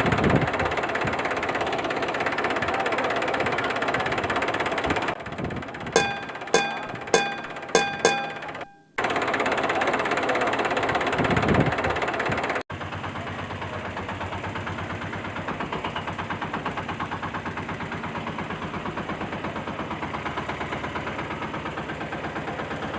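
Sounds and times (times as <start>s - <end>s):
engine chugging: 0.0s - 22.9s.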